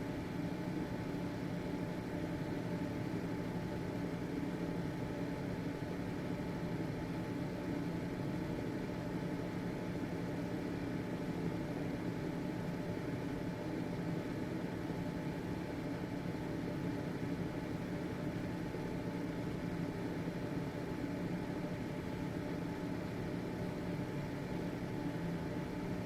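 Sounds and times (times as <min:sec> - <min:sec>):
exhaust fan motor hum: 0:00.0 - 0:26.0.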